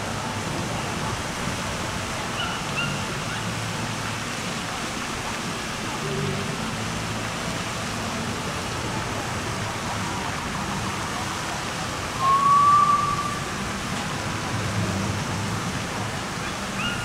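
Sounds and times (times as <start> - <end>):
steady rushing noise: 3.1 - 16.8.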